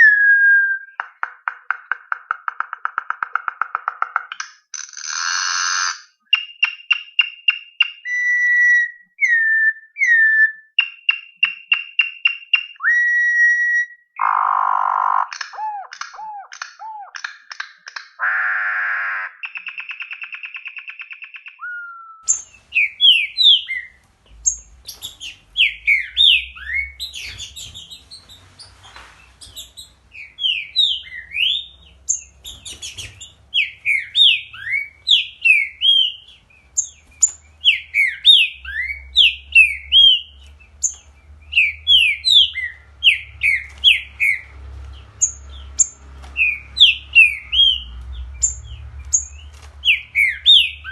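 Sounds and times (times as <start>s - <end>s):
bird calls with pulsed tone: 0.0s - 50.9s
songbird singing whistled notes: 6.1s - 17.2s, 19.2s - 28.7s, 29.4s - 44.5s, 45.2s - 50.9s.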